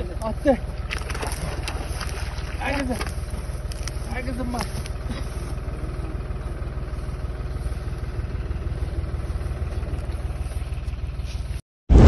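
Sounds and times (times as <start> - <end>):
engine idling: 0.0 - 11.6.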